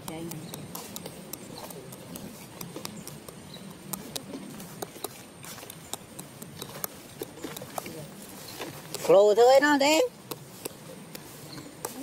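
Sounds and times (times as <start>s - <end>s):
twigs and leaves crackling: 0.0s - 12.0s.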